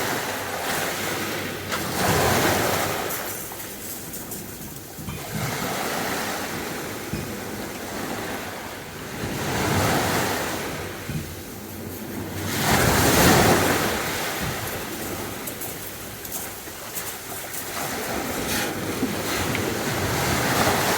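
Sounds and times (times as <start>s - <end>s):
sea waves breaking on beach: 0.0s - 20.9s.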